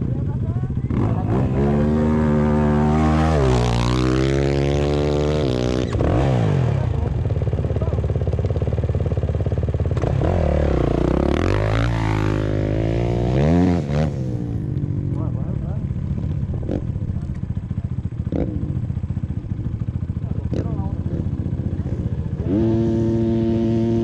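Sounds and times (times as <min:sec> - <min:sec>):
motocross motorcycle engine revving: 0:00.0 - 0:24.0
second motorcycle engine: 0:00.0 - 0:24.0.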